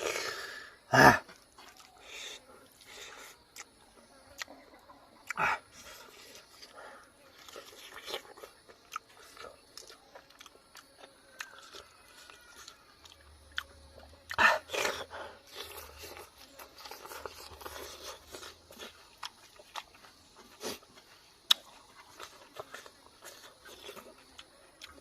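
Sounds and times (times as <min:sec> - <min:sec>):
person chewing and crunching food: 0:01.2 - 0:25.0.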